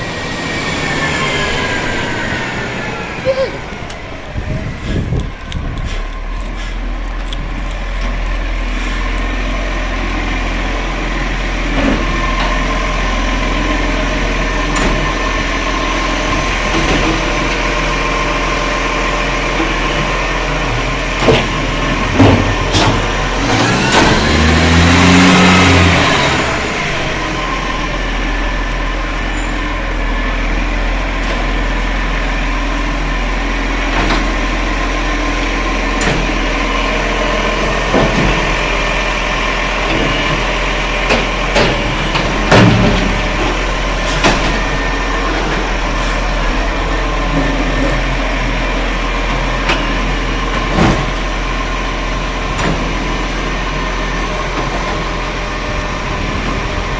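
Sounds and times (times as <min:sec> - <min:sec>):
garbage truck engine running: 0:00.0 - 0:56.9.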